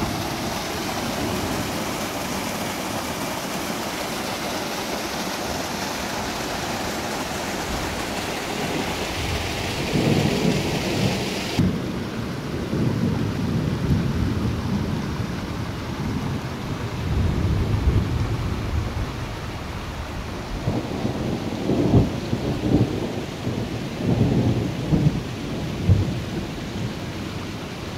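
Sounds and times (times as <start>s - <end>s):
rainwater runoff rushing: 0.0s - 27.9s.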